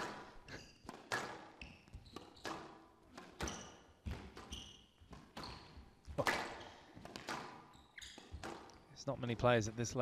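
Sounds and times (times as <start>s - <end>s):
squash ball cracking off rackets: 0.0s - 8.9s
court shoes squeaking: 0.0s - 9.0s.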